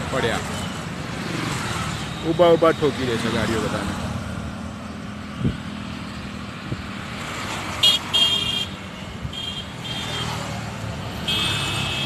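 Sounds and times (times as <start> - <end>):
motorcycle traffic passing: 0.0 - 12.0.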